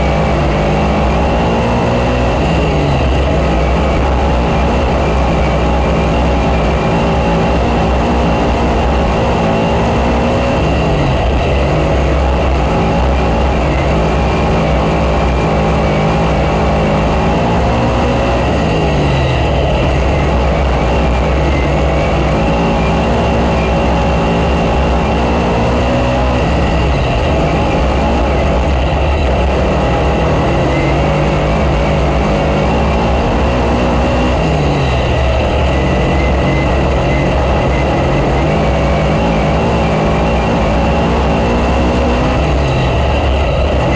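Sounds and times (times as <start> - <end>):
race car engine accelerating: 0.0 - 43.9.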